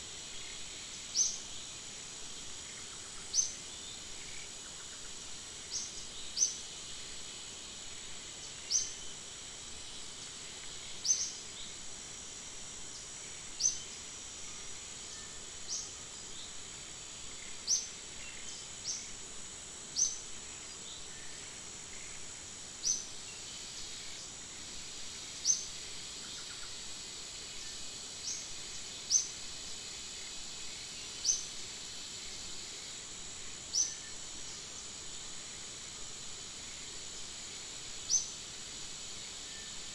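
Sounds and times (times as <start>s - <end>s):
insect drone: 0.0s - 39.9s.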